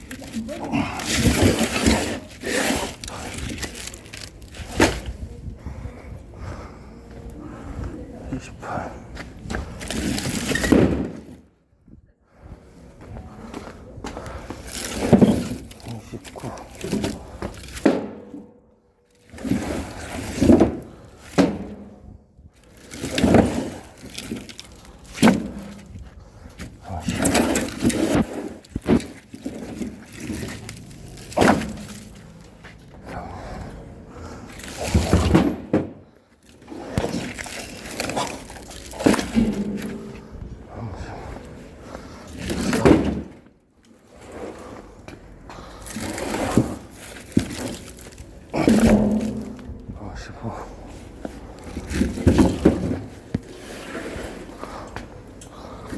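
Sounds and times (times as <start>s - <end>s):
logs scraping and rumbling: 0.0s - 11.3s, 12.4s - 55.9s.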